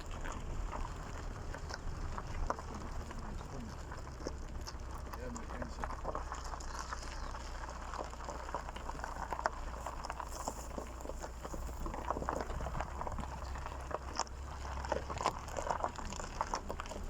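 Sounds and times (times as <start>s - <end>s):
footsteps on stony ground: 0.0s - 17.0s
low rumble: 0.0s - 17.0s.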